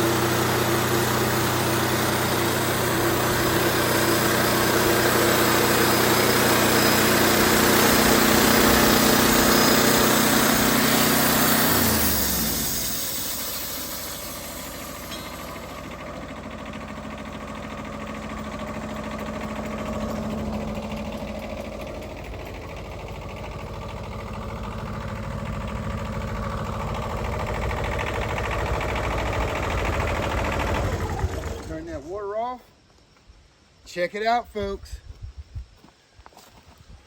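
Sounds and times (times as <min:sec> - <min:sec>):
sawmill engine running: 0:00.0 - 0:32.6.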